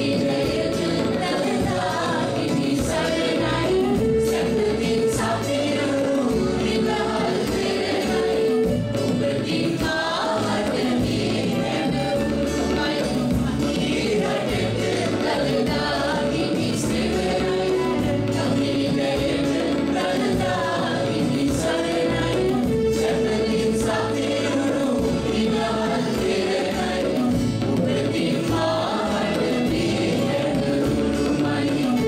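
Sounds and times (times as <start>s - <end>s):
band with steady drum beat: 0.0s - 32.0s
mixed choir singing: 0.0s - 32.0s.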